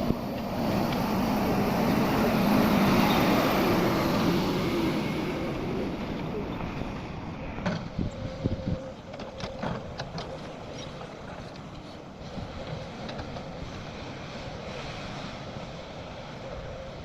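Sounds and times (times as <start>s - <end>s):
excavator diesel engine under load: 0.0s - 17.0s.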